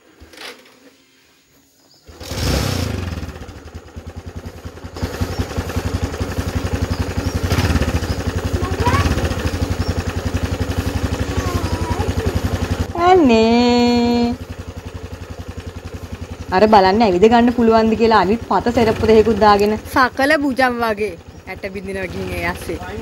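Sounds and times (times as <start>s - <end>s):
motorcycle engine starting and idling: 0.0s - 23.0s.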